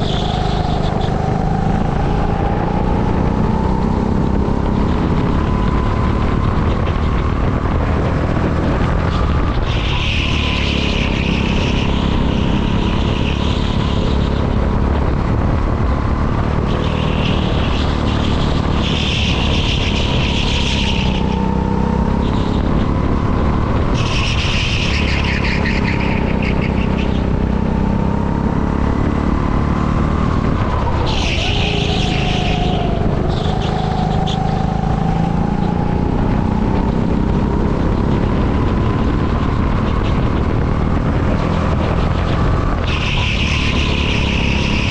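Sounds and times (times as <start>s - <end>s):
go-kart engine running hard: 0.0s - 44.9s.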